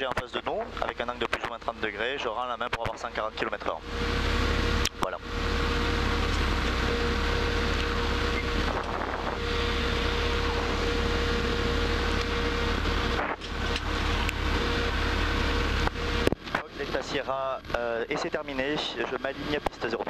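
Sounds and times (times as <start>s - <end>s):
light aircraft engine droning: 0.0s - 20.0s
thin steady whine: 0.0s - 20.0s.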